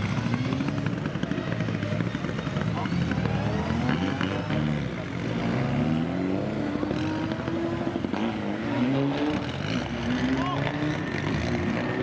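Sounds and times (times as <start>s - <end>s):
rally car engines revving: 0.0s - 12.0s.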